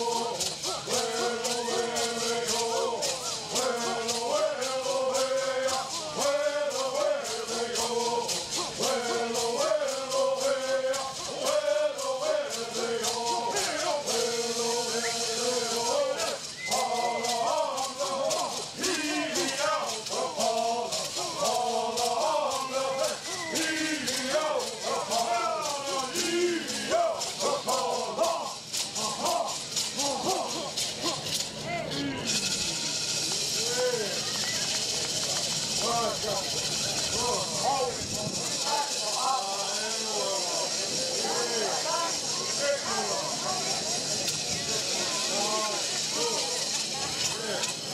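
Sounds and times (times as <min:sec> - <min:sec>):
men singing in unison: 0:00.0 - 0:34.1, 0:35.7 - 0:47.9
gourd rattles shaking: 0:00.0 - 0:47.9.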